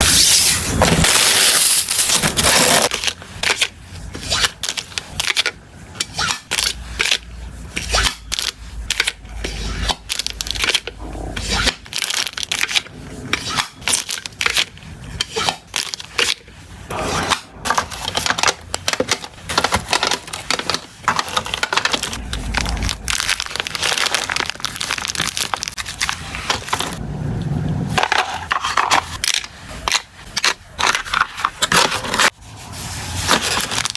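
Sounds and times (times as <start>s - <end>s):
plastic and paper crinkling: 0.0s - 5.6s, 6.3s - 27.0s, 28.0s - 33.9s.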